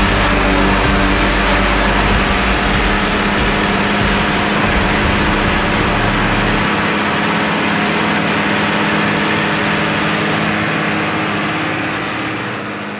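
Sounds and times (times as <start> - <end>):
tractor diesel engine under load: 0.0 - 12.9.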